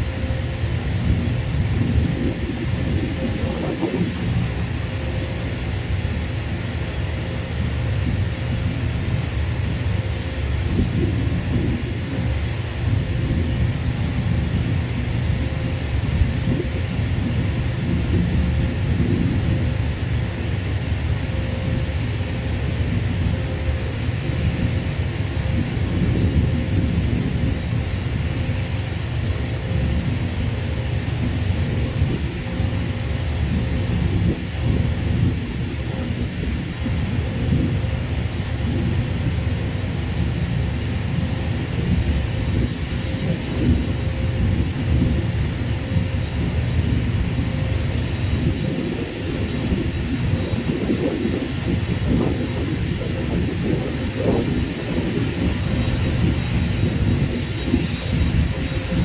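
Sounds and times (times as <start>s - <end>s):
faint engine hiss: 0.0s - 59.0s
faint jet whine: 0.0s - 59.0s
jet engines rumbling: 0.0s - 59.0s
wind on microphone: 0.0s - 59.0s.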